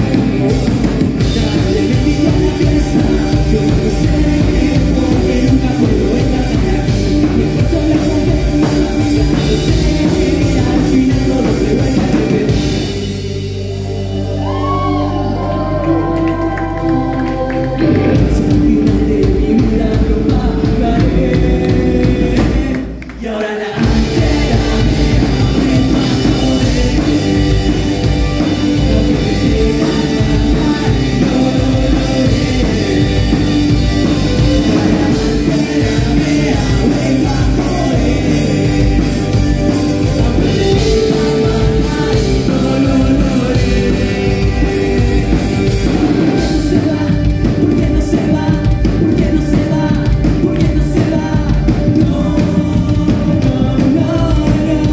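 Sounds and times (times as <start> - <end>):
person singing: 0.0 - 54.9
rock band playing: 0.0 - 54.9.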